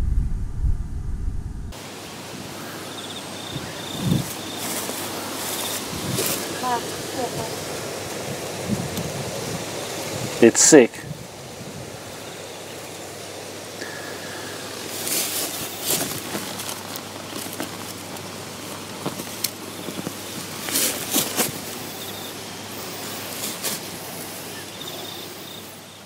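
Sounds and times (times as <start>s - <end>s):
outdoor background hiss: 1.7s - 26.0s
rustling through grass: 1.8s - 10.4s, 11.1s - 25.9s.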